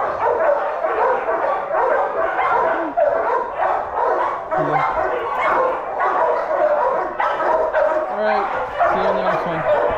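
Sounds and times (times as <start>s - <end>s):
many dogs barking and yipping: 0.0s - 9.9s.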